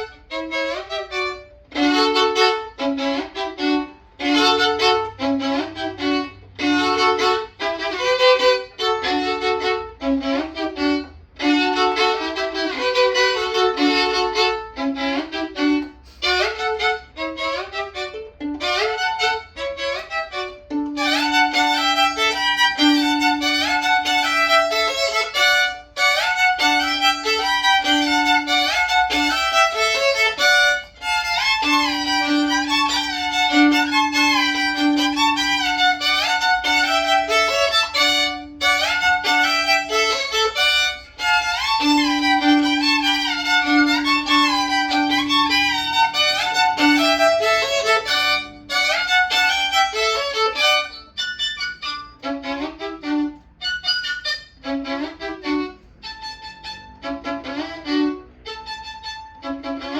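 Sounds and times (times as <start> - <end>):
violin playing folk melody: 0.0 - 59.9.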